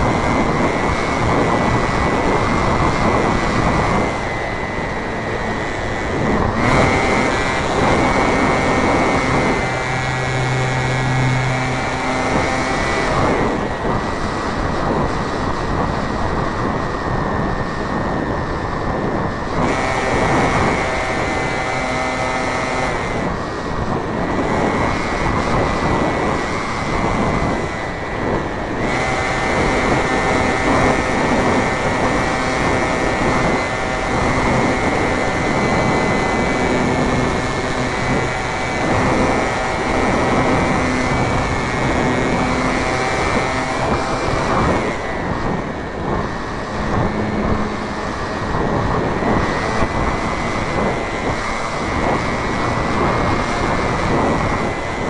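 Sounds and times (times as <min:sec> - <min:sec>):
model plane motor whine: 0:00.0 - 0:55.0
rushing wind: 0:00.0 - 0:55.0.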